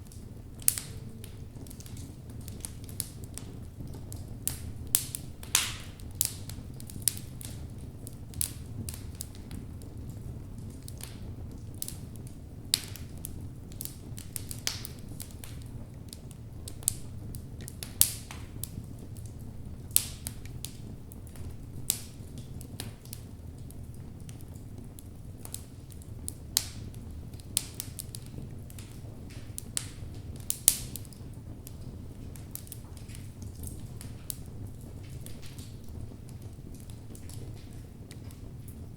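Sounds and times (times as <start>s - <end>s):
fire flames rumbling: 0.0s - 38.9s
wood crackling and popping: 0.0s - 38.9s.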